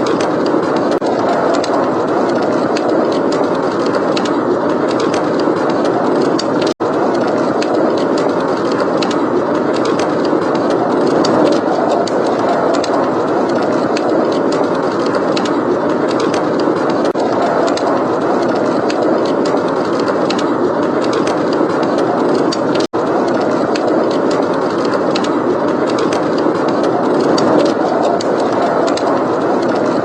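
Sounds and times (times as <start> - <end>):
blizzard wind blowing: 0.0 - 30.0
wood fire crackling: 0.0 - 30.0.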